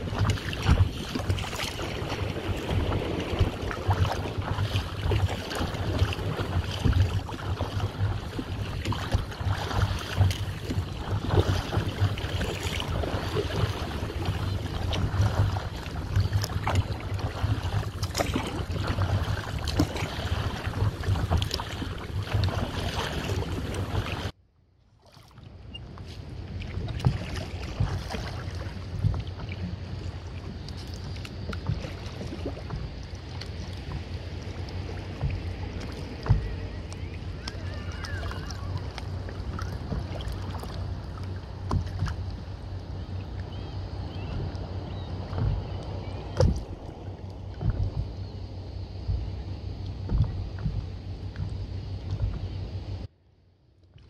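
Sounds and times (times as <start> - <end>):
wind buffeting microphone: 0.0 - 24.3, 26.2 - 53.1
small waves lapping and splashing: 0.0 - 53.1.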